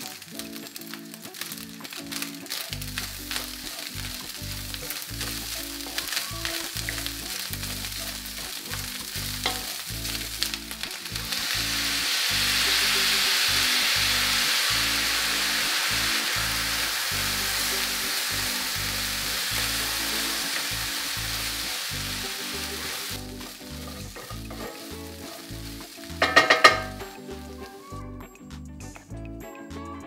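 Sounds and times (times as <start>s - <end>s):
rice frying in a skillet: 0.0s - 28.0s
sauce sizzling in hot pan: 0.0s - 28.0s.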